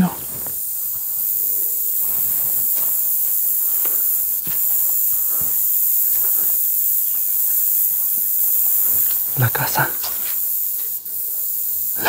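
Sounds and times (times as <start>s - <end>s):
footsteps crunching on dry leaves: 0.0s - 11.4s
steady high hiss: 0.0s - 12.0s.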